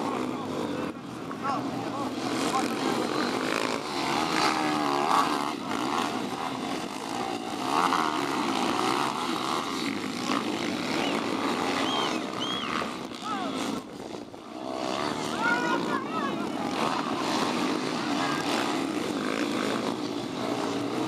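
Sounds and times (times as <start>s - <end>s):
pit bike engines racing: 0.0s - 21.0s.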